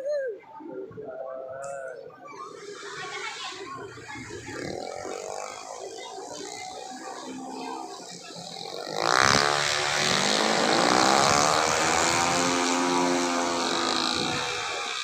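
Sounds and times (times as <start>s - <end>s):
scooter engine passing at high revs: 2.6s - 15.0s.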